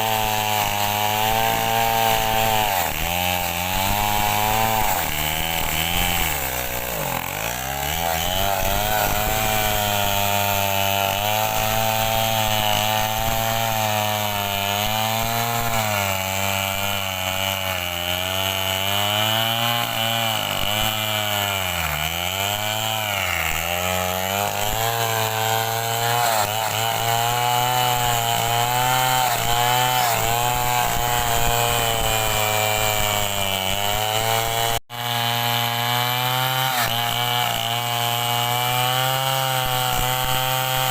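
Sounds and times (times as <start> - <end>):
chainsaw sawing wood: 0.0 - 40.9.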